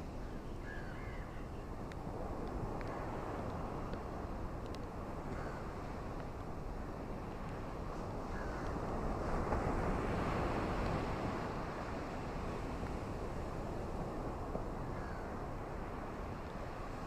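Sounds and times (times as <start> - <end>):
ocean surf washing onto beach: 1.6 - 17.0.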